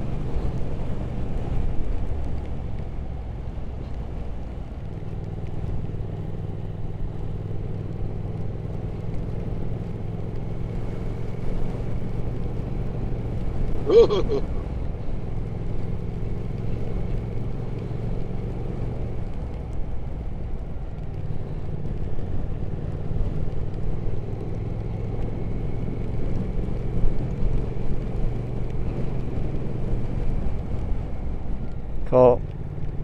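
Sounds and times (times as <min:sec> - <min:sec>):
motorcycle engine hum: 0:00.0 - 0:33.0
wind and road noise: 0:00.0 - 0:33.0.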